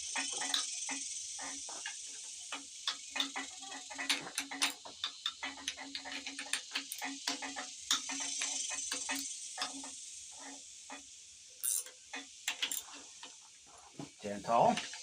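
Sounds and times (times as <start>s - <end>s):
ratchet wrench clicking: 0.0s - 13.4s.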